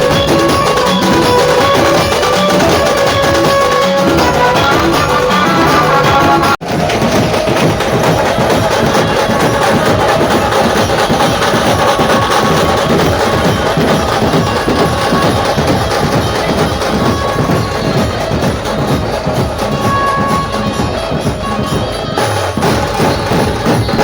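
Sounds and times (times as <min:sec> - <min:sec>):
loud percussion-led band music: 0:00.0 - 0:24.0
wood-block-like clack: 0:00.0 - 0:24.0.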